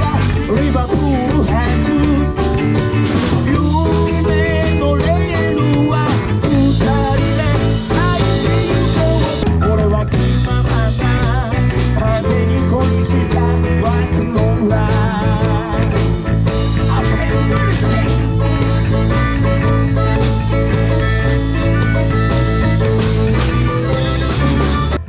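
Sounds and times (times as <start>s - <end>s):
drum beat: 0.0s - 11.4s, 13.4s - 25.0s
bass guitar: 0.0s - 25.0s
electric guitar: 0.0s - 25.0s
melodic lead line: 0.0s - 25.0s.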